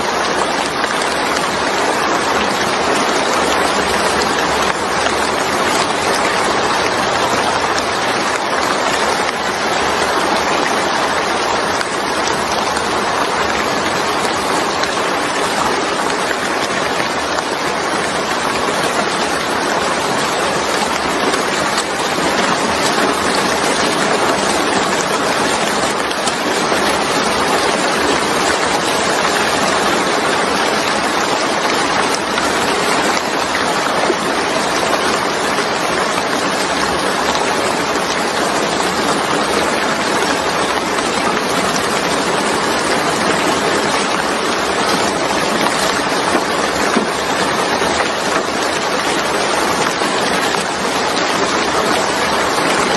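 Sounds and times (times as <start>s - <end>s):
steady rain on wet surface: 0.0s - 52.9s.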